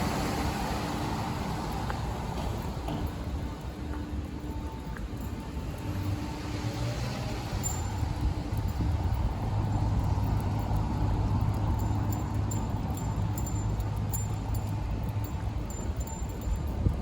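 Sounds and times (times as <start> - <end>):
engine humming: 0.0 - 17.0
light metallic clinks: 1.0 - 17.0.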